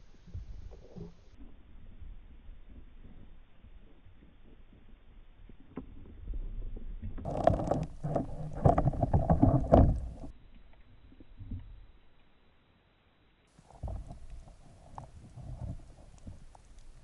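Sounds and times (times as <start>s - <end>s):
water sloshing and bubbling: 0.0s - 12.2s, 13.6s - 17.0s.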